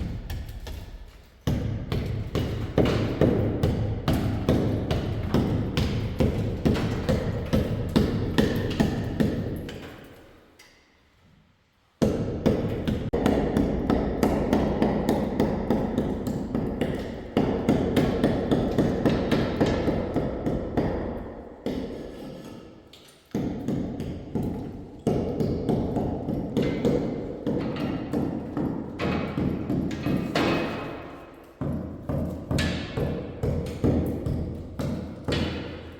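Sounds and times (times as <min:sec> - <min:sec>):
rapid repeated knocks: 0:00.0 - 0:09.8, 0:12.0 - 0:22.1, 0:23.3 - 0:35.9.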